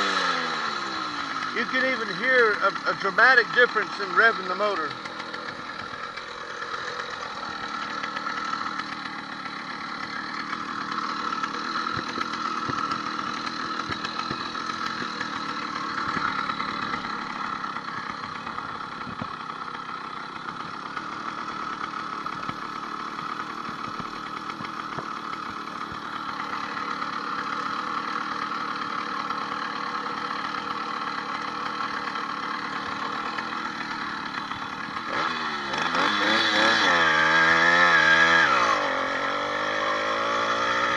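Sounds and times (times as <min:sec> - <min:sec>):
two-stroke engine running: 0:00.0 - 0:40.9.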